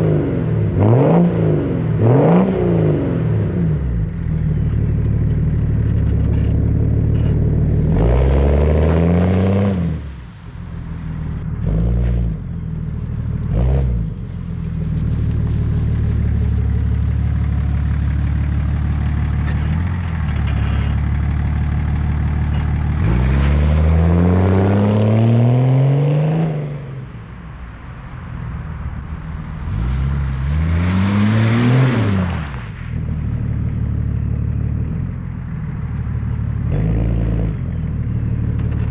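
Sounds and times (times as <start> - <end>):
diesel engine idling and revving: 0.0 - 38.9.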